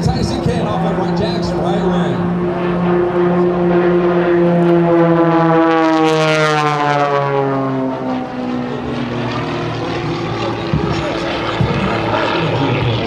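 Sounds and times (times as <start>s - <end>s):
propeller planes flying past: 0.0s - 13.0s.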